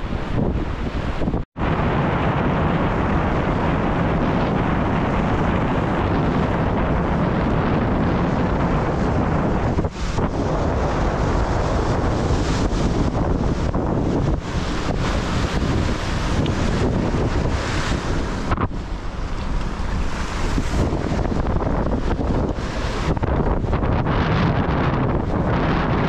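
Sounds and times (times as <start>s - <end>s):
surf washing: 0.0s - 26.0s
wind buffeting microphone: 0.0s - 26.0s.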